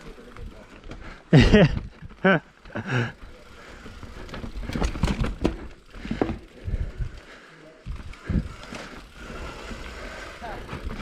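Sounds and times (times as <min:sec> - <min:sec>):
bike knocking and rattling: 0:00.0 - 0:11.0
mountain bike rolling on rough trail: 0:00.0 - 0:11.0.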